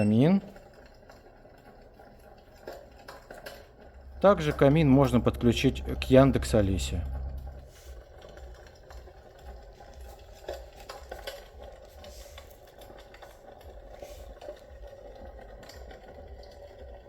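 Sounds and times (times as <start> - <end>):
electric fireplace humming: 0.0 - 17.0
faint clicks and ticks: 0.0 - 17.0.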